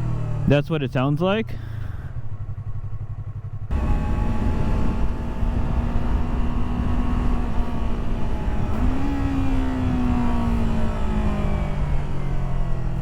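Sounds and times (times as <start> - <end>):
motorcycle engine running: 0.0 - 0.6, 1.4 - 13.0
wind and road noise: 1.5 - 13.0.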